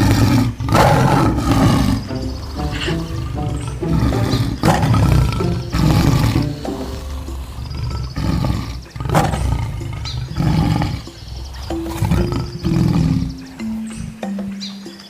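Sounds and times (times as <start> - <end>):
tiger growling and roaring: 0.0 - 14.6
background music: 0.0 - 15.0.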